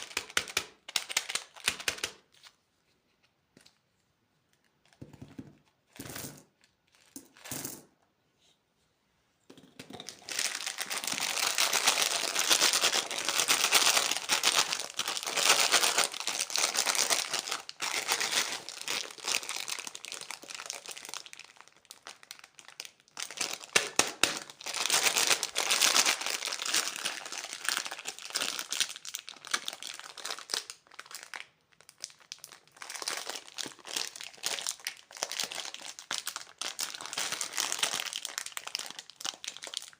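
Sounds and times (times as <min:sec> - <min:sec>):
candy wrapper crinkling: 0:00.0 - 0:02.6, 0:09.9 - 0:39.9.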